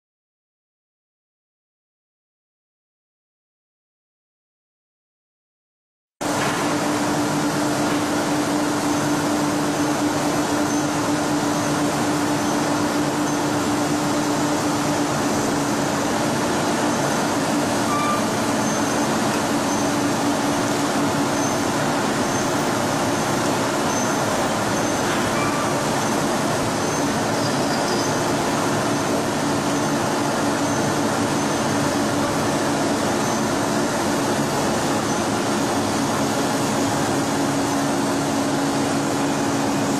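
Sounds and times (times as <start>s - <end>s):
rolling mill machine din: 6.2s - 39.9s.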